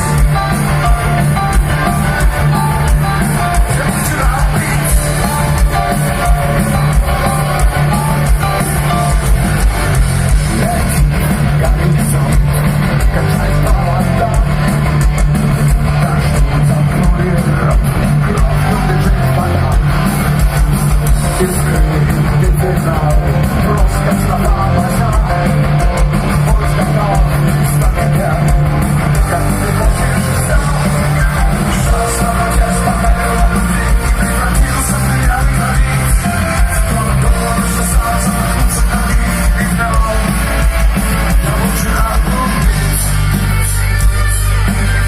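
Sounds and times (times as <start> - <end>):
bass guitar: 0.0 - 45.0
drum kit: 0.0 - 45.0
loud electric guitar: 0.0 - 45.0
rock band playing live: 0.0 - 45.0.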